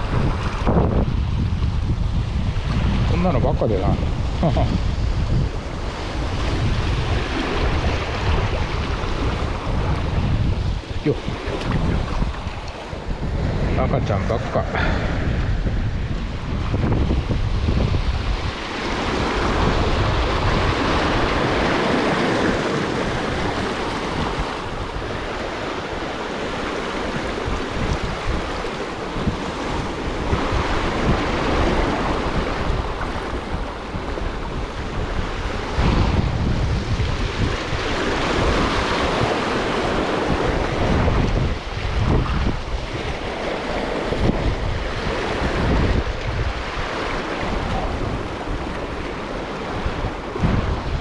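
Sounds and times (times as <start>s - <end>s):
sea waves washing and splashing: 0.0s - 51.0s
wind buffeting the microphone: 0.0s - 51.0s.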